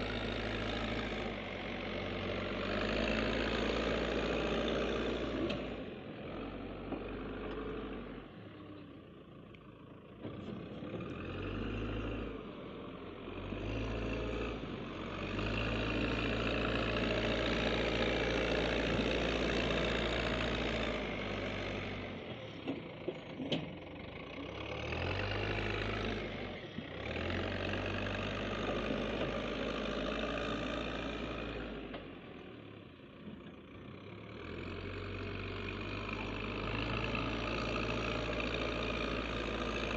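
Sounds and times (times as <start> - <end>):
diesel engines revving: 0.0 - 39.9.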